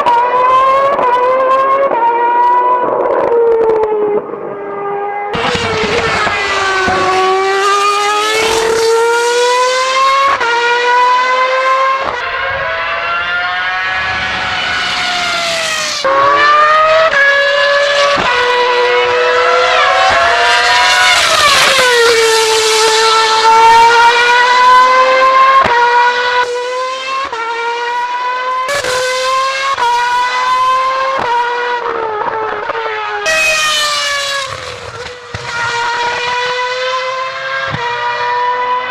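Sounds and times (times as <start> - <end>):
racing car engine at high revs: 0.0 - 38.9.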